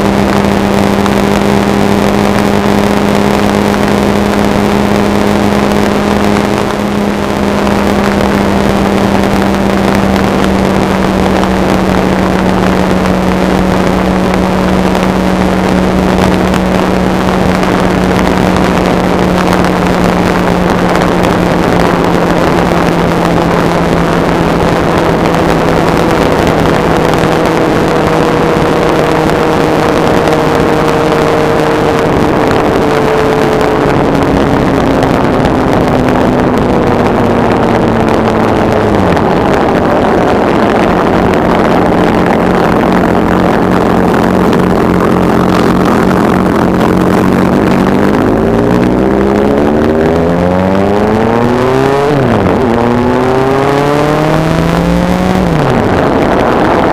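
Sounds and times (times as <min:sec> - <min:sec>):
motorcycle engine revving: 0:00.0 - 0:56.9
wind rush: 0:00.0 - 0:56.9.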